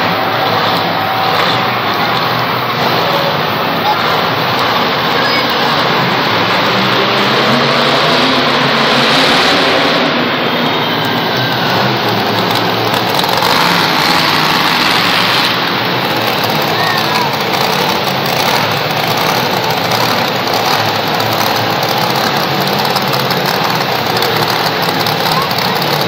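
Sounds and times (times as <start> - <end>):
monster truck engine running: 0.0 - 26.0.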